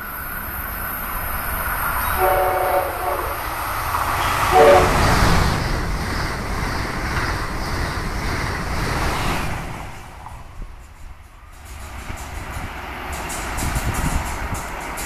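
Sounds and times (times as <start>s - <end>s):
high-speed train passing: 0.0s - 15.0s
low train rumble: 0.0s - 15.0s.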